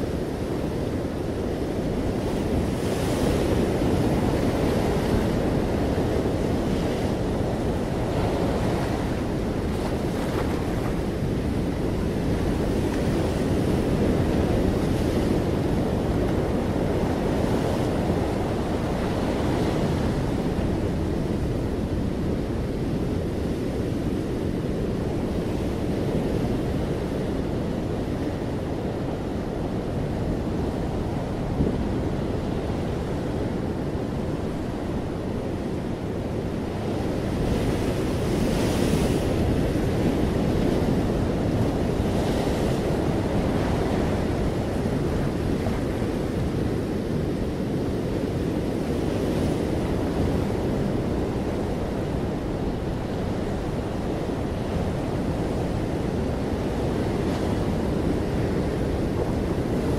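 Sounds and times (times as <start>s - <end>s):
ocean surf washing over rocks: 0.0s - 59.9s.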